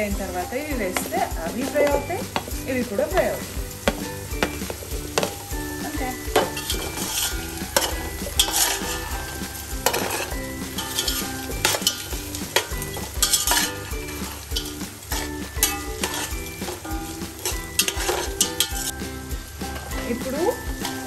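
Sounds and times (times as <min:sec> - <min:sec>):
vegetables sizzling: 0:00.0 - 0:21.0
metal spatula scraping a pan: 0:00.2 - 0:21.0.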